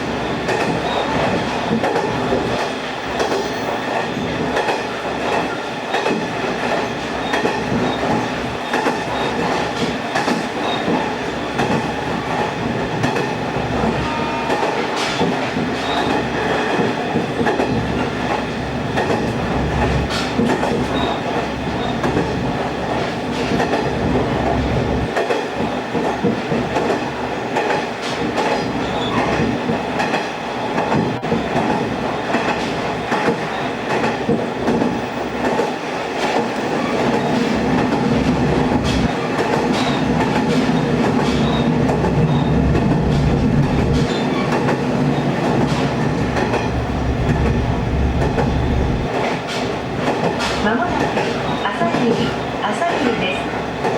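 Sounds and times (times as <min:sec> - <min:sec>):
train running noise: 0:00.0 - 0:53.9.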